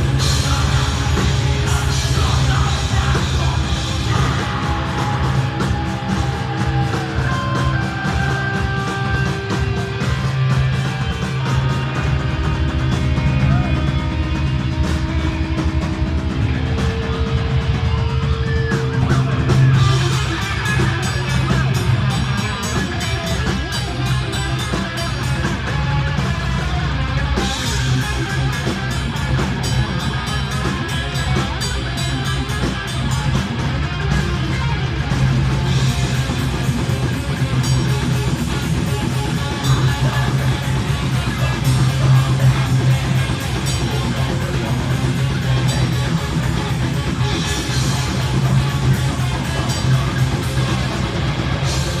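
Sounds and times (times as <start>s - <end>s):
distorted electric guitars: 0.0s - 52.0s
fast drumming: 0.0s - 52.0s
heavy metal band playing: 0.0s - 52.0s.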